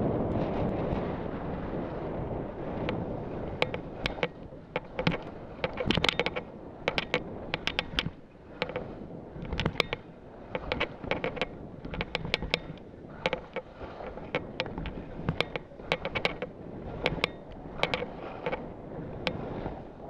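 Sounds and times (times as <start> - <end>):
skis rumbling on snow: 0.0 - 20.0
wind rushing over microphone: 0.0 - 20.0
skis clicking and knocking: 2.8 - 19.8.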